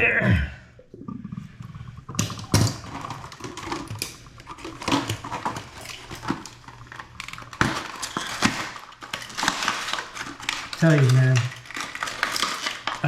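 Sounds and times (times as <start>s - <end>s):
packaging rustling: 1.6s - 13.0s
clicks and knocks of handled parts: 2.1s - 13.0s.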